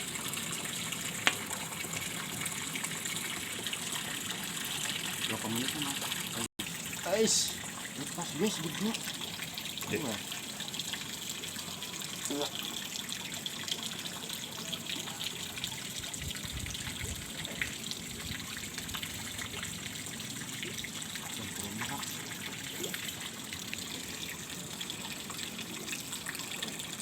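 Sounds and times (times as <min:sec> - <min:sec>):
stream flowing and trickling: 0:00.0 - 0:27.0.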